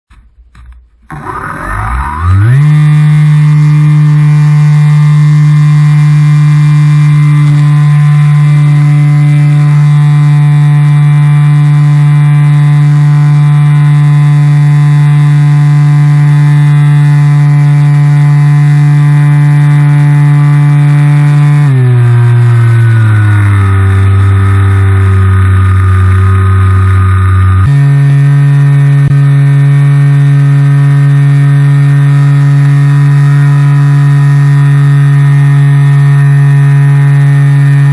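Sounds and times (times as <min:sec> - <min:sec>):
model plane motor and propeller: 0:00.6 - 0:37.9.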